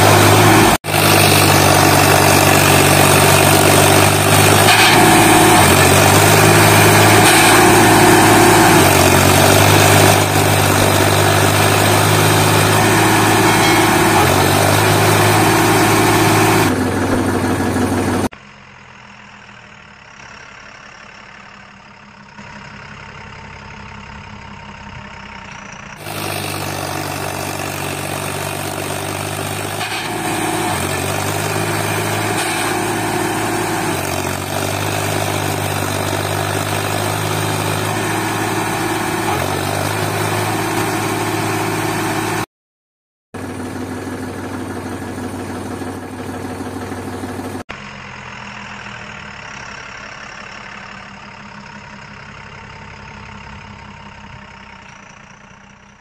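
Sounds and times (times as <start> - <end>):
engine-like drone: 0.0 - 42.5, 43.4 - 56.0.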